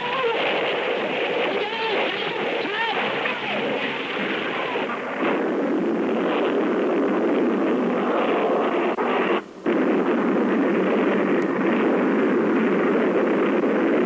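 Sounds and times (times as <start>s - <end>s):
loud steady rushing noise: 0.0s - 14.0s.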